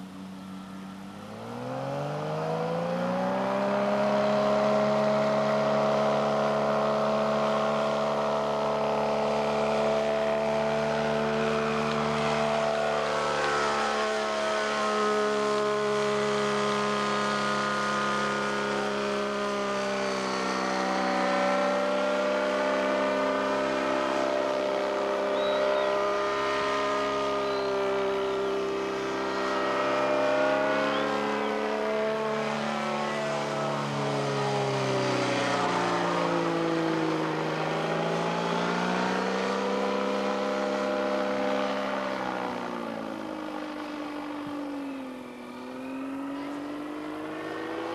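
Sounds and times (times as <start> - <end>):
engine and propeller running: 0.0 - 47.9.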